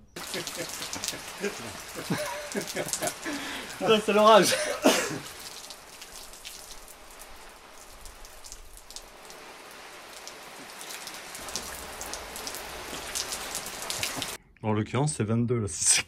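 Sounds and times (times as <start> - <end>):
water spray pattering on umbrella: 0.2 - 14.4.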